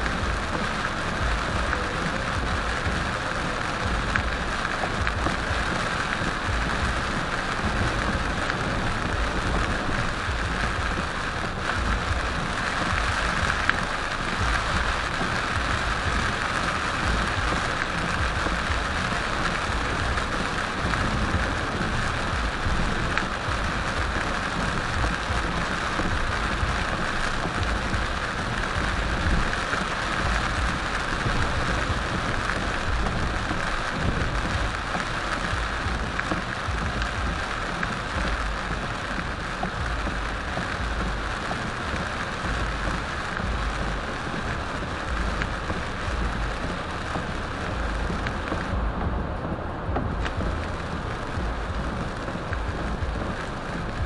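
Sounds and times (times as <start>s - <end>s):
heavy rain on car roof: 0.0s - 54.0s
moving car rumble: 0.0s - 54.0s.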